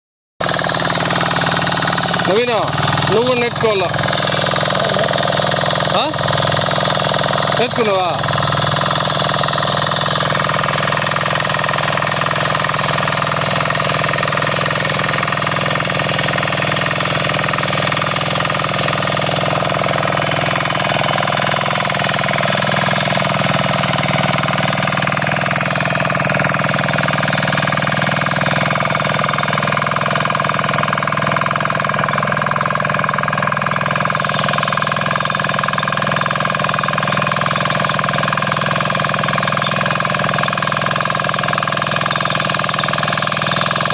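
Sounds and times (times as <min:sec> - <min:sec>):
diesel engine running: 0:00.4 - 0:43.9.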